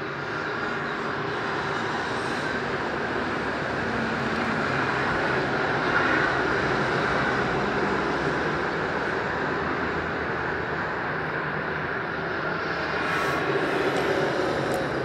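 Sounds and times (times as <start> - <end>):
motorway traffic: 0.0 - 15.0.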